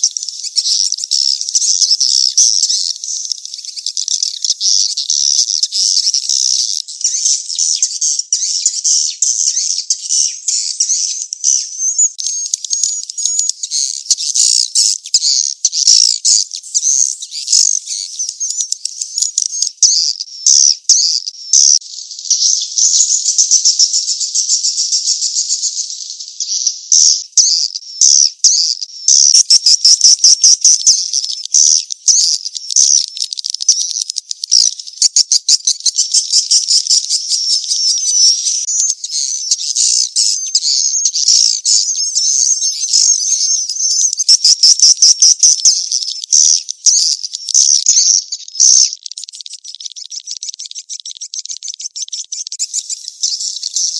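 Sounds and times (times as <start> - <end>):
bird chirps and twitters: 0.0 - 53.9.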